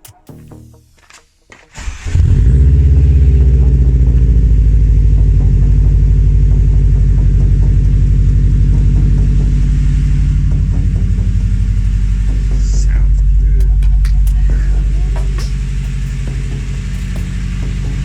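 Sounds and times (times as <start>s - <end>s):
car engine starting and idling: 1.7s - 18.0s.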